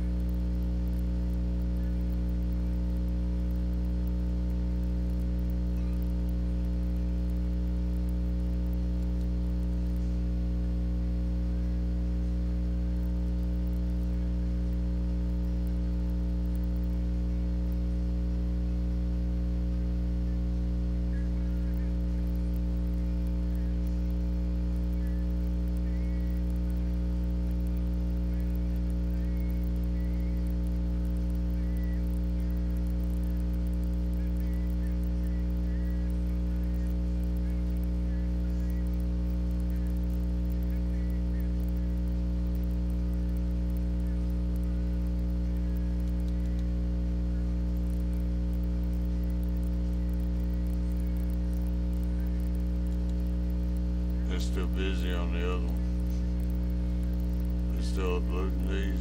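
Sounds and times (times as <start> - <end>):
electrical mains hum: 0.0 - 59.0.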